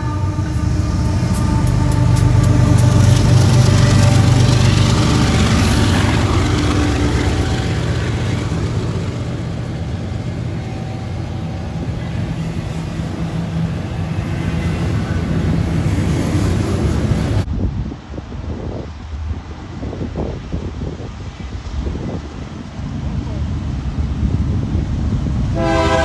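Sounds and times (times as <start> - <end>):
diesel locomotive engine drone: 0.0 - 26.0
train wheels rumbling on rails: 0.0 - 26.0.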